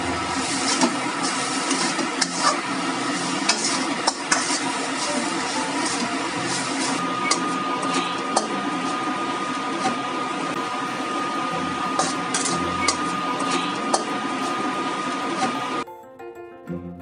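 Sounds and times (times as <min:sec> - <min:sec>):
frying hiss: 0:00.0 - 0:15.8
metal spatula scraping wok: 0:00.0 - 0:15.8.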